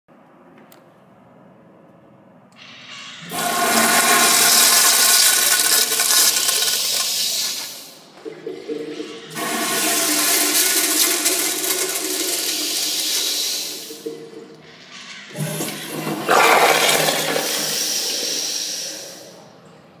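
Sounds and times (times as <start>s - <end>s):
urinal flushing: 2.6s - 20.0s.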